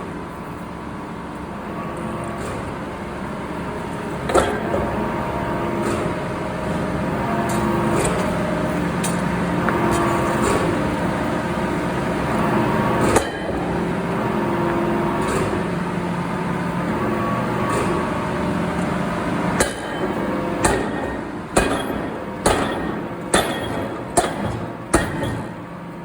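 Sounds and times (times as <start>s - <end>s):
machinery humming: 0.0s - 26.0s.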